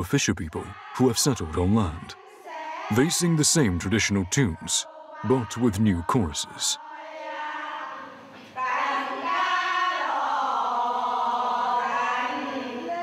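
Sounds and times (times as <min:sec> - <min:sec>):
women singing together: 0:00.6 - 0:13.0.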